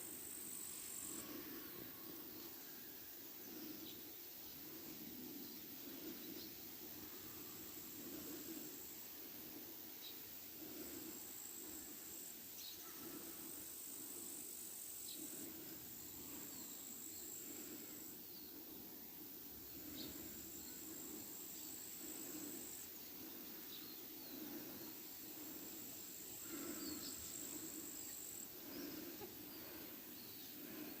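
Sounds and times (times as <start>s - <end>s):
faint chirps: 0.0s - 31.0s
insect trill: 0.0s - 31.0s.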